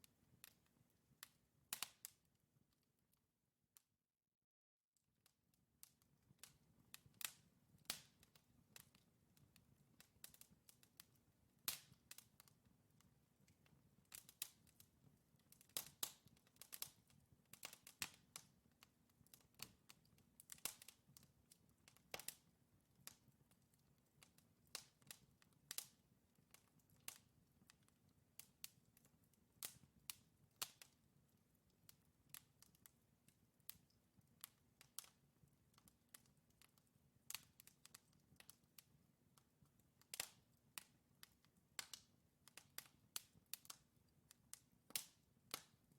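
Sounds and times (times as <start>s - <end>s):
fire crackling and popping: 0.1s - 2.3s, 5.8s - 45.9s.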